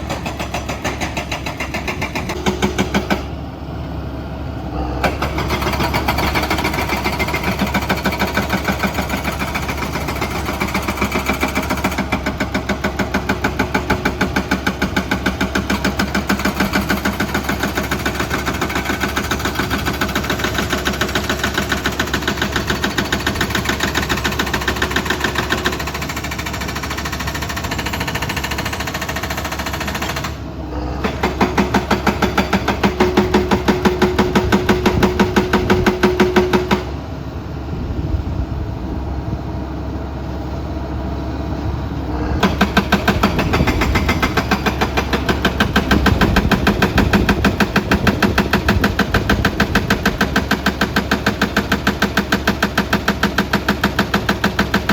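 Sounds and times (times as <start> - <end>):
excavator machinery pulsing: 0.0 - 38.3, 40.2 - 54.9.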